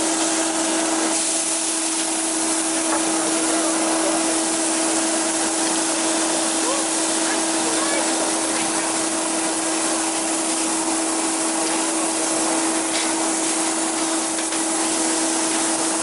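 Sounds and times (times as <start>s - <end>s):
constant machine hum: 0.0s - 16.0s.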